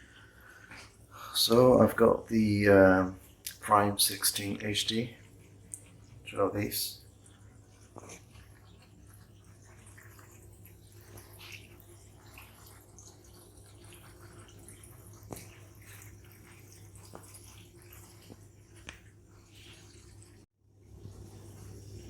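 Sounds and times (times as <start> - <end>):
aquarium water trickling: 0.0 - 22.0.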